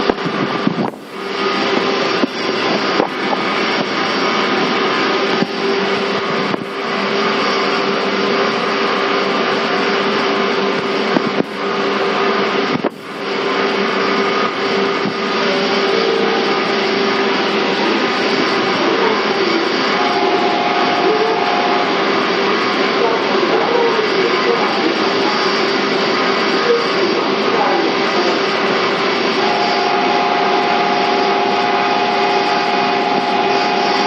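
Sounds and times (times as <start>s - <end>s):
traction motor whine: 0.0s - 34.0s
train wheels rushing on rail: 0.0s - 34.0s.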